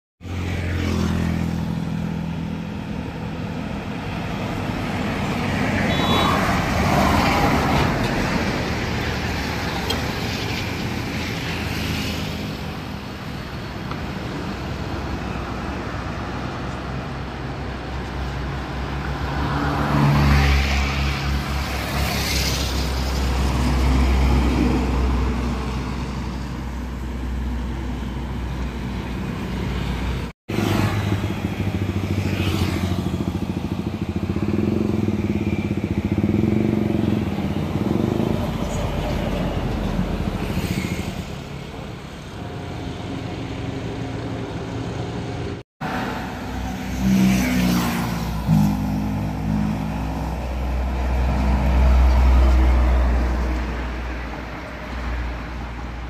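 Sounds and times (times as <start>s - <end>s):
heavy trucks passing: 0.2s - 56.0s
motorcycles passing: 0.3s - 27.6s, 28.3s - 56.0s.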